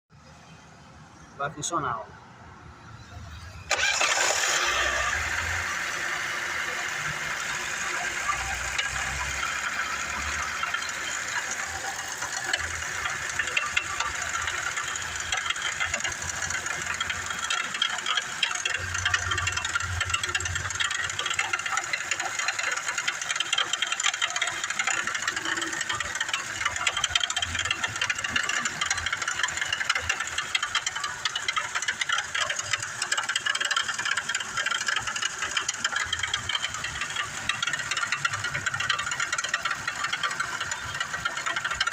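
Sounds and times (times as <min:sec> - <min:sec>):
fast rattling engine tick: 0:03.0 - 0:41.9
car engine running: 0:03.1 - 0:41.9.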